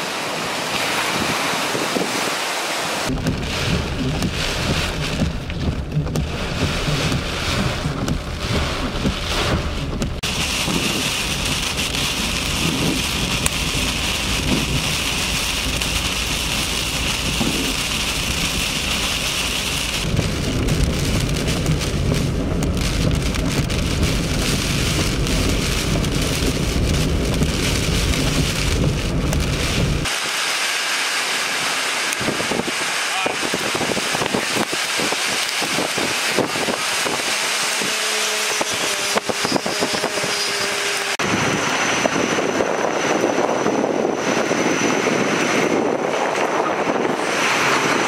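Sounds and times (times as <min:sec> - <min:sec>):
heavy rain pouring: 0:00.0 - 0:44.4, 0:45.6 - 0:48.0
deep rumble: 0:03.1 - 0:30.2, 0:32.2 - 0:48.0.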